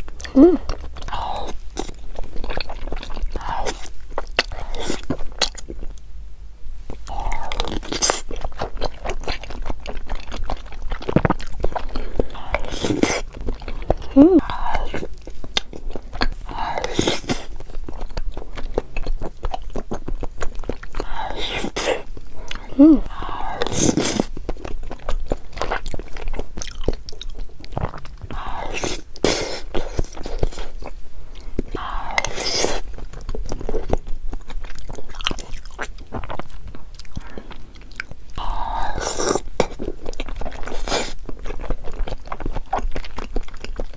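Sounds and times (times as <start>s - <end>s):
crunchy chewing of food: 0.0s - 6.1s, 6.8s - 43.9s.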